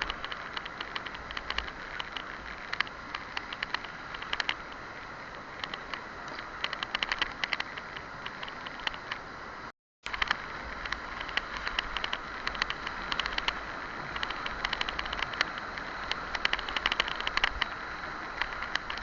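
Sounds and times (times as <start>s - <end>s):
water rushing: 0.0s - 19.0s
wind rumble on microphone: 0.0s - 19.0s.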